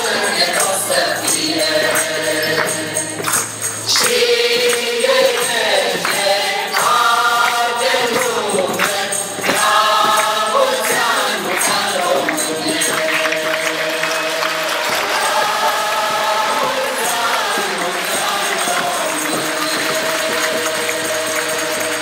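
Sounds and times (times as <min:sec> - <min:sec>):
light percussion beat: 0:00.0 - 0:22.0
mixed choir singing: 0:00.0 - 0:22.0.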